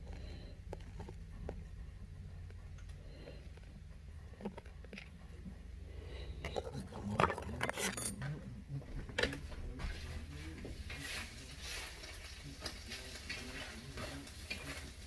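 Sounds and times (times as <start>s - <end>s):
crackling handling noise: 0.0s - 5.5s, 6.4s - 15.0s.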